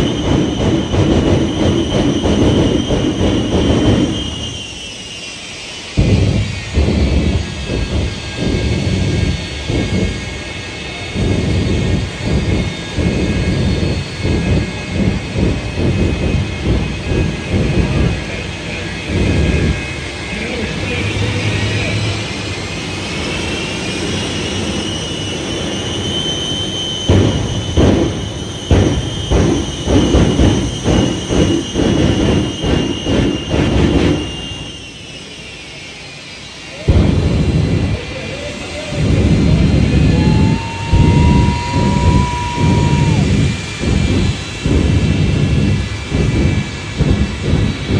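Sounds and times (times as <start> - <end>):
afterburner booms: 0.0 - 4.7, 5.9 - 23.3, 27.0 - 34.8, 36.9 - 47.9
jet engines whining: 0.0 - 47.9.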